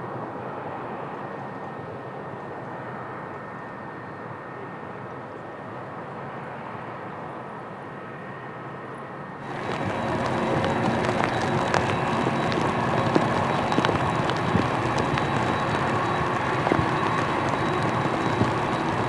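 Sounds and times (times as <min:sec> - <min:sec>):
jet airliner engine noise: 0:00.0 - 0:19.0.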